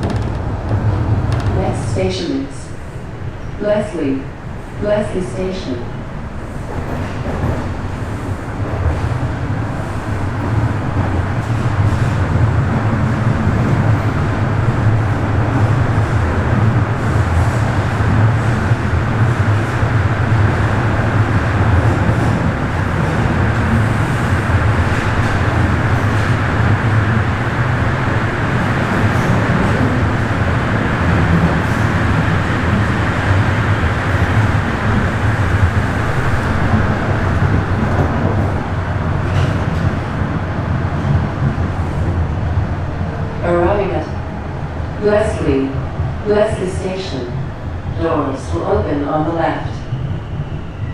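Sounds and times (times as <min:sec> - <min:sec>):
subway train rumbling: 0:00.0 - 0:50.9.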